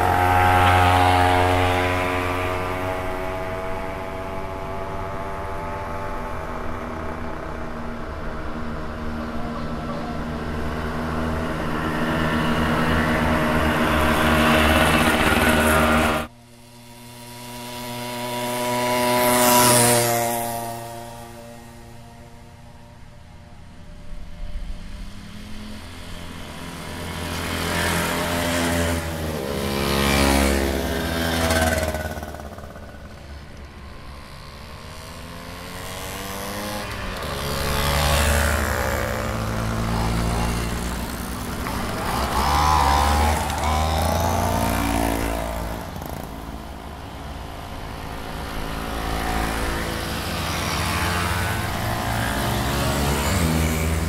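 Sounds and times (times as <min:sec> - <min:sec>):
mopeds riding past: 0:00.0 - 0:54.0.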